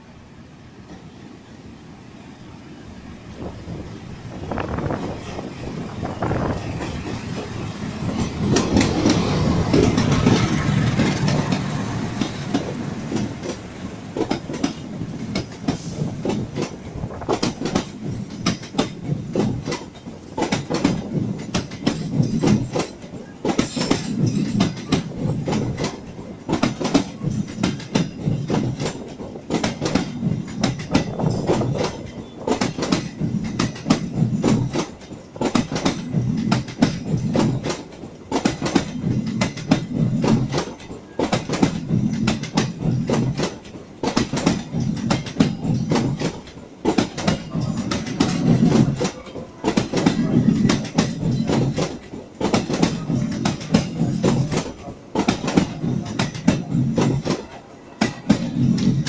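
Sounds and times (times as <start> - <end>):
train wheels clickety-clack: 3.3 - 59.0.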